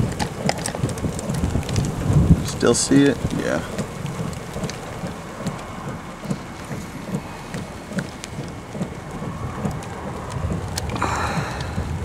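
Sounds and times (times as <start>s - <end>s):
raindrops ticking sharply: 0.0s - 12.0s
steady rain: 0.0s - 12.0s.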